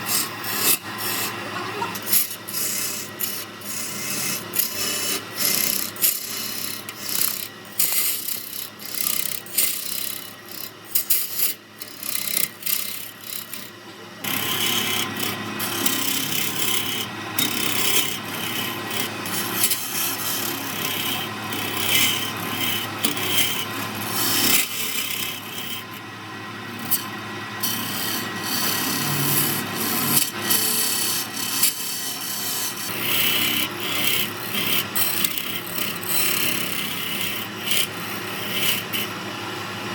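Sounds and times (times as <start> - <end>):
lathe tool cutting wood: 0.0 - 39.9.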